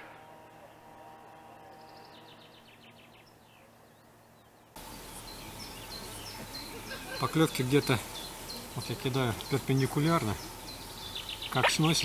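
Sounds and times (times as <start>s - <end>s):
faint outdoor background: 0.0s - 12.0s
small bird chirping: 1.7s - 12.0s.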